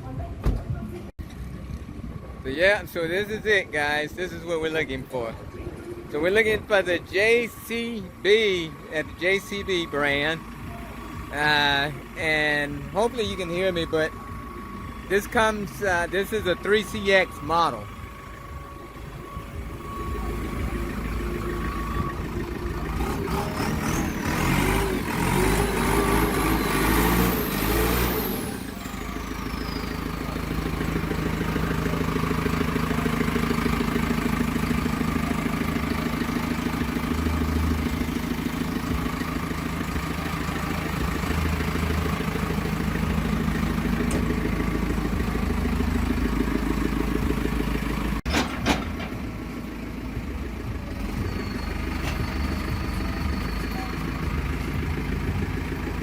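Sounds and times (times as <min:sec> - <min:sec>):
diesel engine revving and idling: 0:00.0 - 0:56.0
high engine whine: 0:00.0 - 0:56.0.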